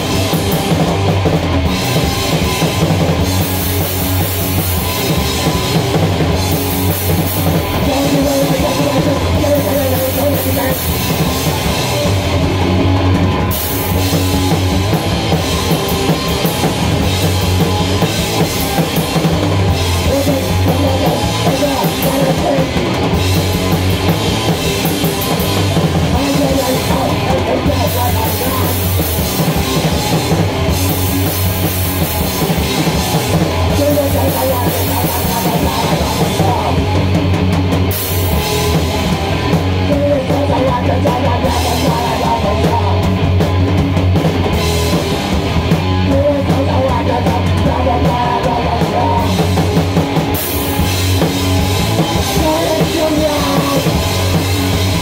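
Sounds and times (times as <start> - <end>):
drum kit played hard: 0.0 - 55.0.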